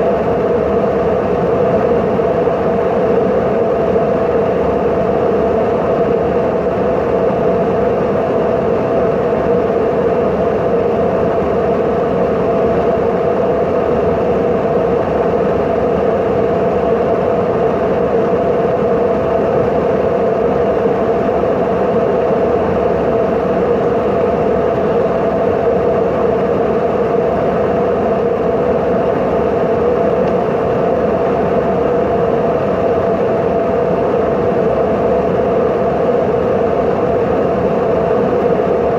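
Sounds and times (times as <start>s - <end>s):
airplane drone in flight: 0.0s - 38.9s.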